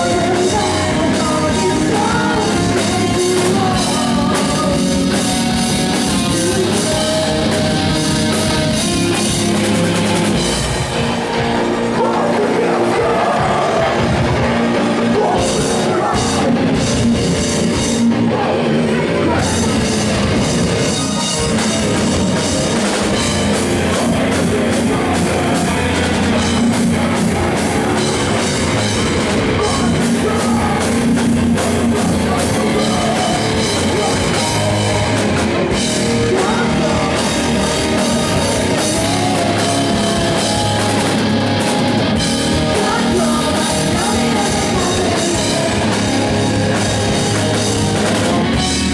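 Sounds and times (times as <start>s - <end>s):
drum kit: 0.0s - 48.9s
loud rock band playing live: 0.0s - 48.9s.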